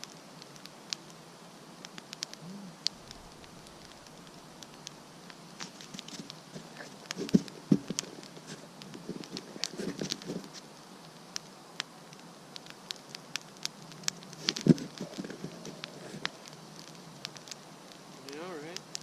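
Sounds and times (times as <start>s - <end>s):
campfire crackling and popping: 0.0s - 19.0s
light rain pattering: 0.0s - 19.0s.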